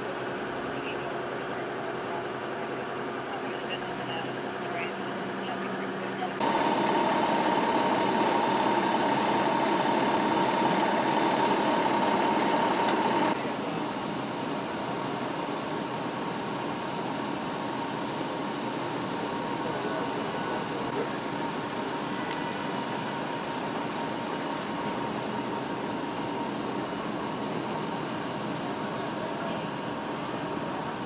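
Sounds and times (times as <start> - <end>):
engines idling: 0.0 - 31.0.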